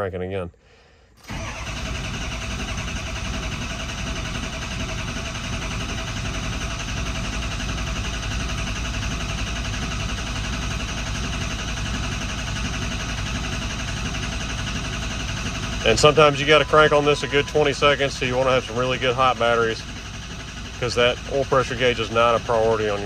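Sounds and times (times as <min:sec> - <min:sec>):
diesel engine cranking: 0:01.1 - 0:23.0.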